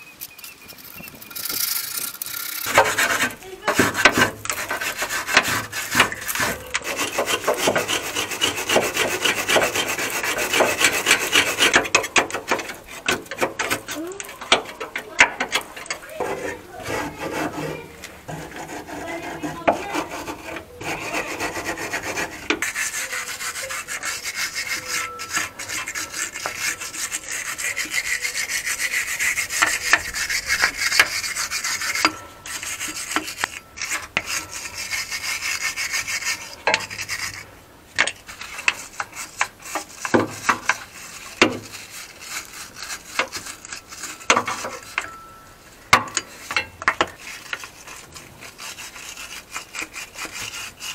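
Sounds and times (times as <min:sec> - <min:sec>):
wire brush scrubbing metal: 0:00.8 - 0:50.9.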